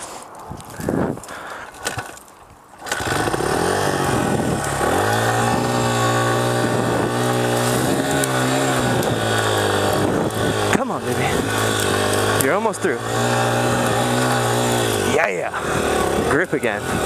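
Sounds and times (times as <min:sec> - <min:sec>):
dirt bike engine revving: 0:02.8 - 0:17.0.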